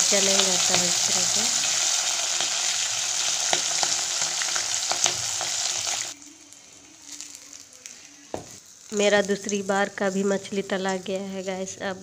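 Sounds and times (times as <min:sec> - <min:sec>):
fish sizzling in hot oil: 0:00.0 - 0:11.6.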